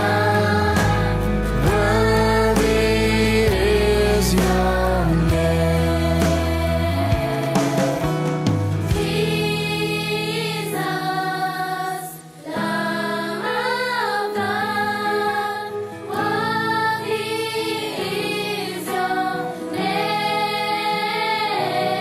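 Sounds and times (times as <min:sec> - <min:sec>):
choir singing held notes: 0:00.0 - 0:22.0.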